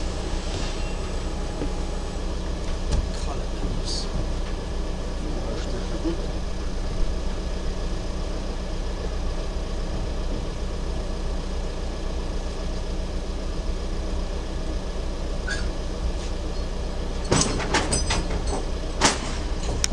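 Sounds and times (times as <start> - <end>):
heavy engine idling: 0.0 - 19.9.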